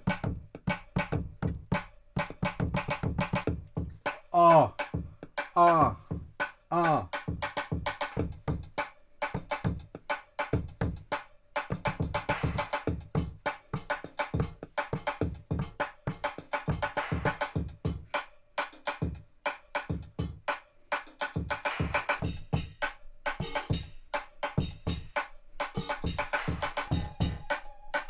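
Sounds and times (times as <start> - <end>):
drum machine beat: 0.0 - 28.0.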